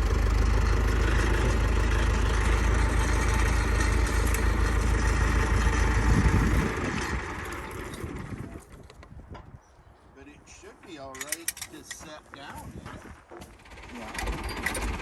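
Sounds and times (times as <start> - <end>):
machine engine deep rumble: 0.0 - 9.1, 11.0 - 15.0.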